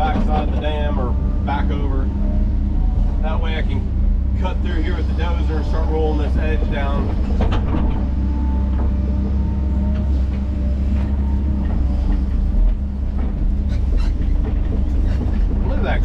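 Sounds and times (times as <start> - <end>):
bulldozer diesel engine: 0.0 - 16.0
steel tracks clanking: 0.0 - 16.0.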